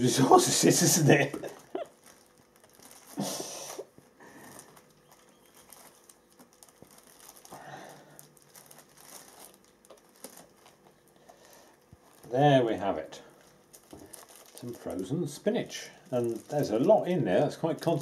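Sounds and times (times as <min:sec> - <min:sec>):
plastic bag crinkling: 0:00.2 - 0:18.0.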